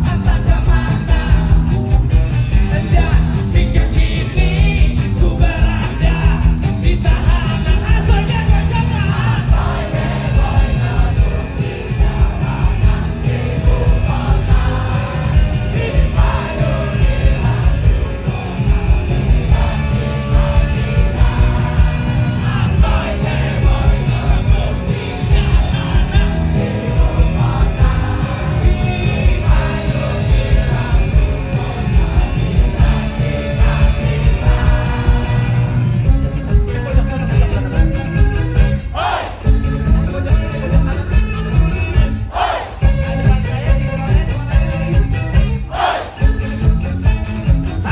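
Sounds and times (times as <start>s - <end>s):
lead singer singing: 0.0s - 46.7s
live rock band playing: 0.0s - 47.9s.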